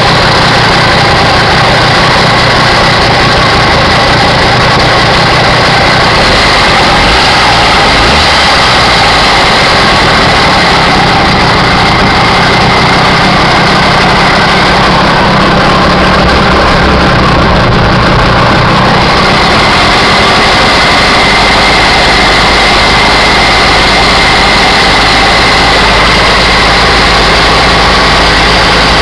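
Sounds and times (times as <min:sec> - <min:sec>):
two-stroke engine running: 0:00.0 - 0:29.0.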